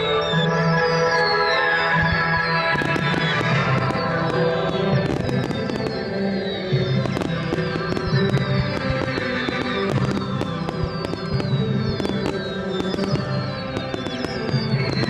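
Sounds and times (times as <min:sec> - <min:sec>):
fireworks bangs and crackles: 0:00.0 - 0:15.0
music with held notes: 0:00.0 - 0:15.0.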